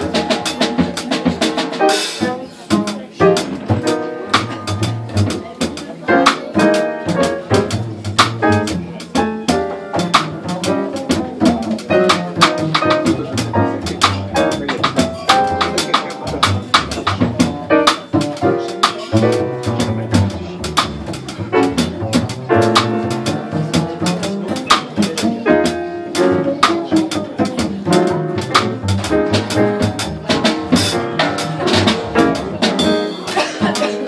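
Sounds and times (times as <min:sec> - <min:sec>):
double bass line: 0:00.0 - 0:34.0
drum kit with cymbal strokes: 0:00.0 - 0:34.0
piano: 0:00.0 - 0:34.0.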